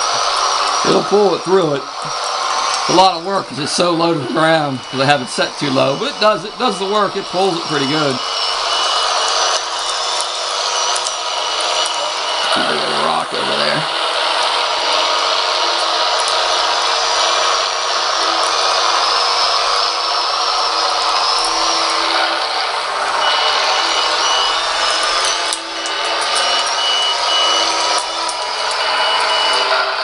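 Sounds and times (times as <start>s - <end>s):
reversing beeper: 0.0s - 30.0s
simulated diesel engine sound: 0.0s - 30.0s.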